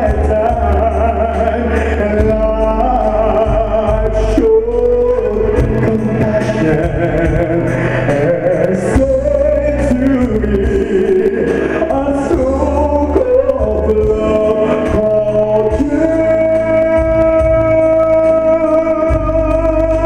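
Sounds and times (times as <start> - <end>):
instrumental backing with bass: 0.0 - 20.0
person singing slow ballad: 0.0 - 20.0.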